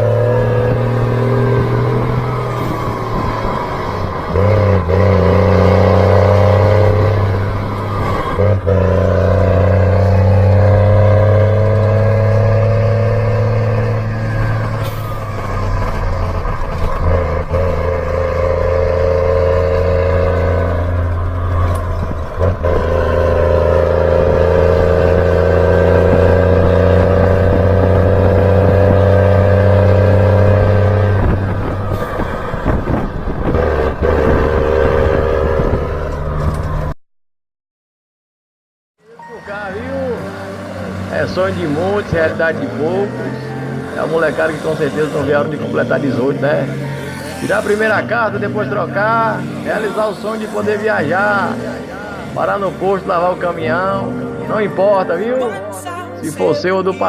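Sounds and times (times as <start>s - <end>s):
heavy truck engine accelerating: 0.0s - 37.0s, 39.0s - 57.0s.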